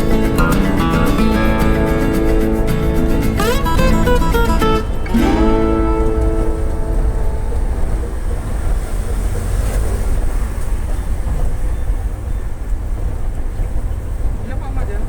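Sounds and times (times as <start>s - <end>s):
road noise: 0.0s - 15.0s
vehicle rumble: 0.0s - 15.0s
wind noise: 0.0s - 15.0s.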